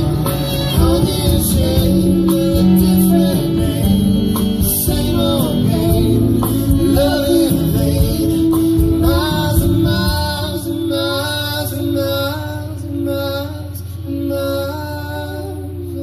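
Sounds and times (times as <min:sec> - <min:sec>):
live rock band playing: 0:00.0 - 0:16.0
person singing: 0:00.0 - 0:16.0.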